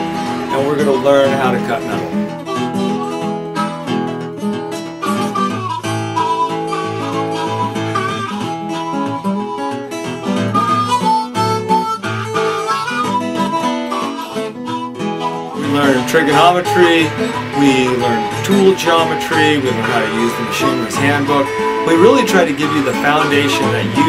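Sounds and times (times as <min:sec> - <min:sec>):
acoustic guitar: 0:00.0 - 0:24.0
harmonica melody: 0:00.0 - 0:24.0.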